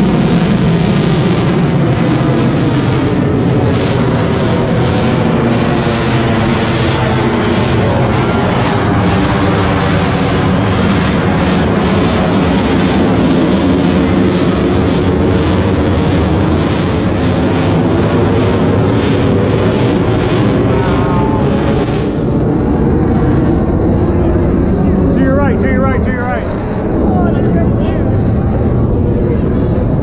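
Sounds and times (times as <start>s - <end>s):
airplane engine roar: 0.0s - 30.0s.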